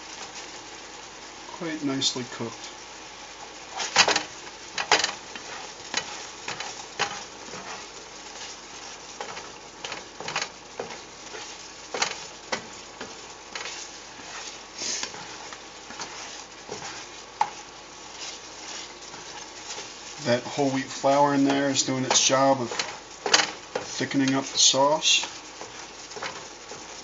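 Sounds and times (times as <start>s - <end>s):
asparagus sizzling in a pan: 0.0s - 27.0s
utensil scraping against pan: 3.6s - 27.0s.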